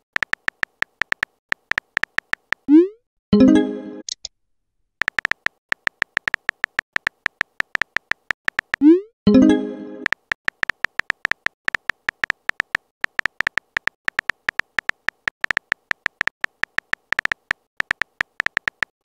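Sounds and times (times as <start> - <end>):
phone keyboard typing clicks: 0.0 - 2.7, 5.0 - 8.9, 10.0 - 19.0.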